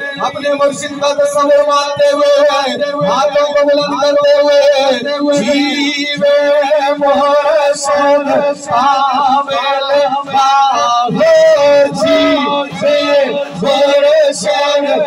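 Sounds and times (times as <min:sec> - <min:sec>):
men singing devotional song amplified: 0:00.0 - 0:15.0.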